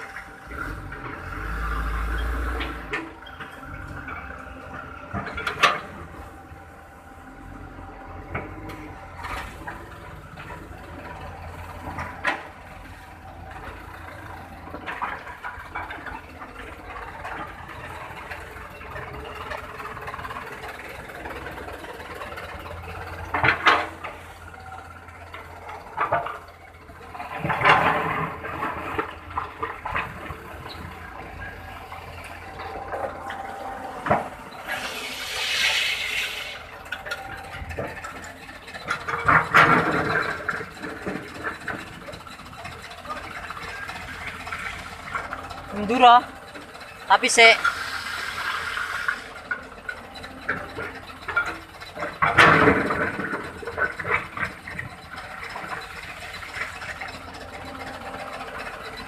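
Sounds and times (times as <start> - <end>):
diesel trucks and machinery running: 0.0 - 59.0
knocks and clatters: 2.5 - 7.0, 8.2 - 59.0.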